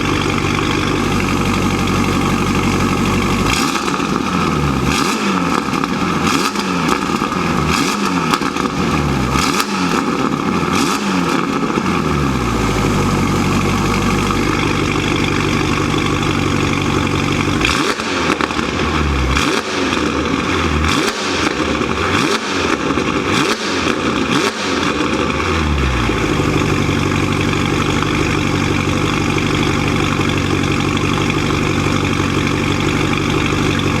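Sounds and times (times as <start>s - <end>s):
car engine revving and idling: 0.0s - 34.0s.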